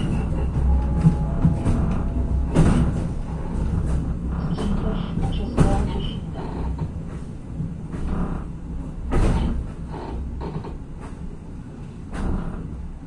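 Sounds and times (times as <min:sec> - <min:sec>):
train clunks: 0:00.0 - 0:13.0
train interior low rumble: 0:00.0 - 0:13.0.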